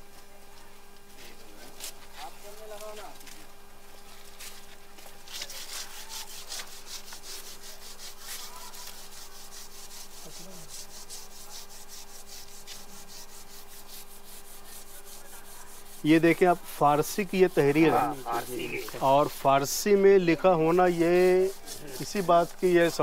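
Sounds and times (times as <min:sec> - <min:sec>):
hand scraping on stone: 0:04.1 - 0:23.0.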